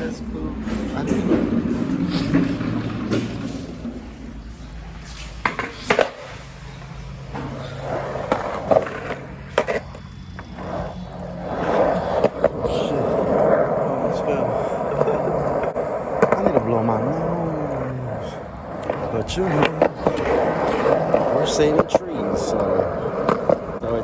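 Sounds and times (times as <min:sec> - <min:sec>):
skateboard wheels rolling: 0:00.0 - 0:24.0
skateboard sharp clacks: 0:00.8 - 0:24.0.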